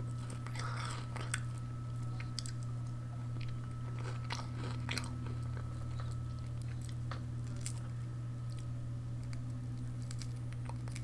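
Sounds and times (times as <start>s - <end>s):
low hum: 0.0s - 11.0s
wafer crackling and chewing: 0.0s - 11.0s.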